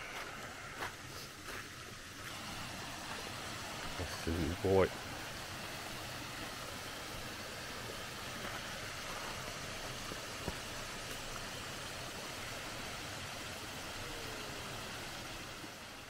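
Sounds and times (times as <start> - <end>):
small waterfall rushing over rocks: 0.0 - 16.0.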